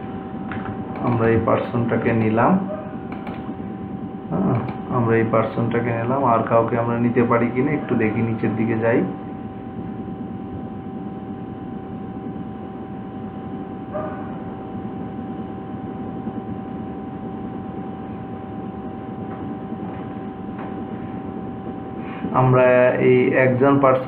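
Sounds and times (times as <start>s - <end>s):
background hum and hiss: 0.0s - 24.0s.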